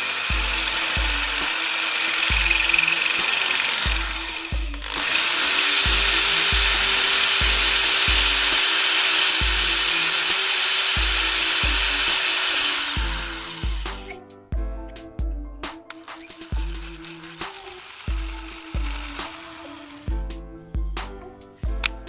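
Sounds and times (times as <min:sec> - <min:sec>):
hammer drill motor whine: 0:00.0 - 0:14.2, 0:16.0 - 0:20.1.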